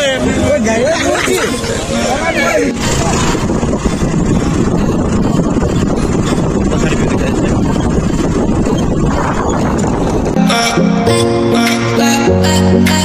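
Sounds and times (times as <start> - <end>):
road or wind noise: 0.0 - 13.0
vehicle engine rumble: 0.0 - 13.0.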